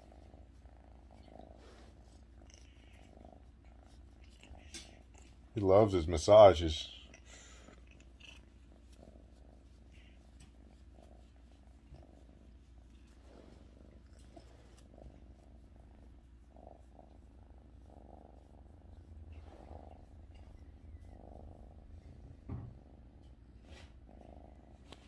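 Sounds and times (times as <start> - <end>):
kitten purring: 0.0 - 25.0.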